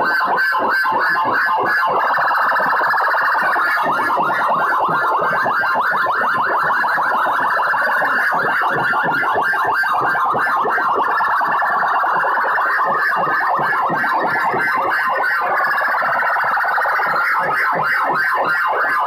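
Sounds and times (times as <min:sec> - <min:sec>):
distorted loudspeakers pulsing: 0:00.0 - 0:19.0.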